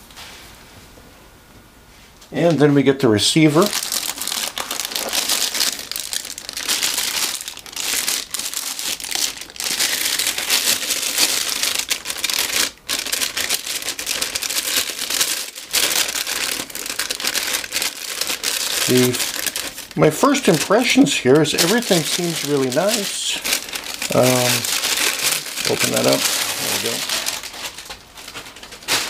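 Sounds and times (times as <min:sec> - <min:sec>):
plastic bag crinkling: 0:03.4 - 0:29.0.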